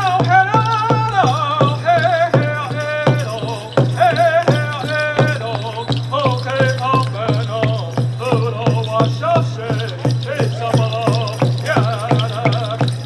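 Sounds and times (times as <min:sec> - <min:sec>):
man singing a wavering chant: 0:00.0 - 0:13.0
steady drumbeat: 0:00.0 - 0:13.0.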